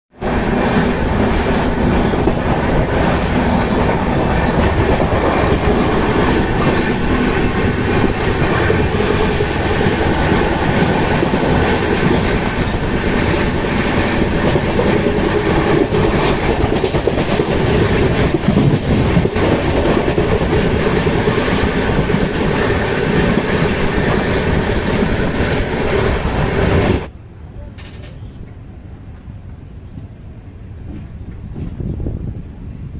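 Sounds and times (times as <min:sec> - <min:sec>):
train wheels rumbling on rails: 0:00.1 - 0:32.9.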